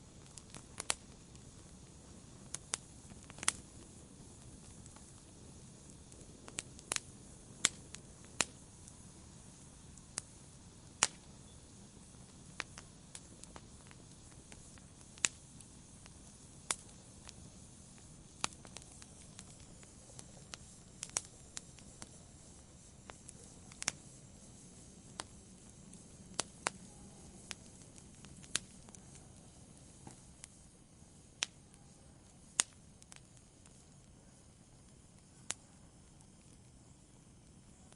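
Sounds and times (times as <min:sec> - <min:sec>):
burning wood crackling and popping: 0:00.0 - 0:37.9
campfire flame rushing: 0:00.0 - 0:37.9.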